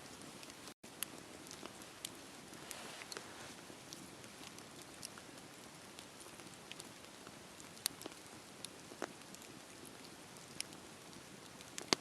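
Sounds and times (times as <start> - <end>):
bonfire crackling and popping: 0.0 - 12.0.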